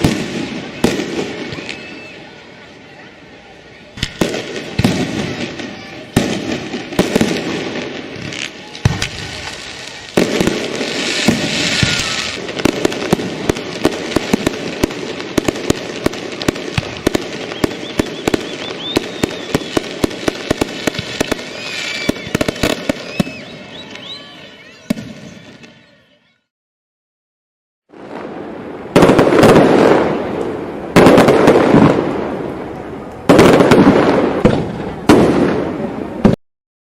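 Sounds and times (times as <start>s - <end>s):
fireworks bangs and cracks: 0.0s - 2.7s, 3.9s - 24.2s, 24.8s - 25.8s, 27.9s - 36.4s.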